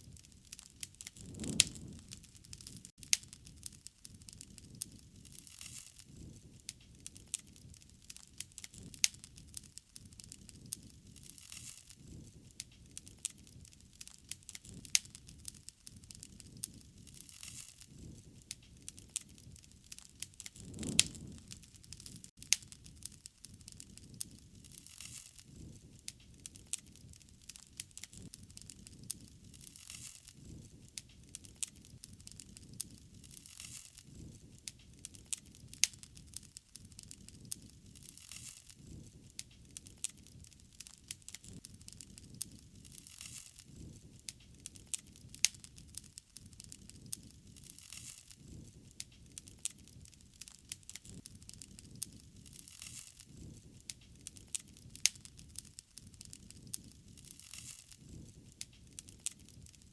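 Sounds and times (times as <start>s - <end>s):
low rumble of flame: 0.0s - 59.9s
wood fire crackling and popping: 0.0s - 59.9s.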